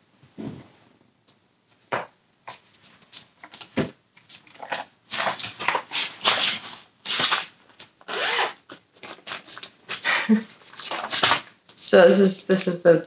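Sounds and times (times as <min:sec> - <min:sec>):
rustling handling noise: 0:00.2 - 0:12.0.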